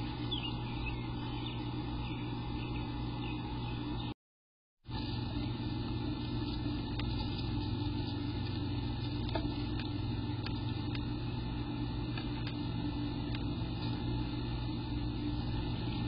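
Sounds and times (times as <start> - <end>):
low hum: 0.0 - 4.1, 4.9 - 16.0.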